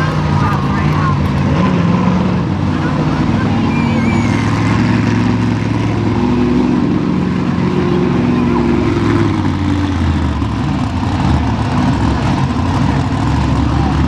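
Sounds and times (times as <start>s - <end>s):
monster truck engines racing: 0.0s - 14.0s.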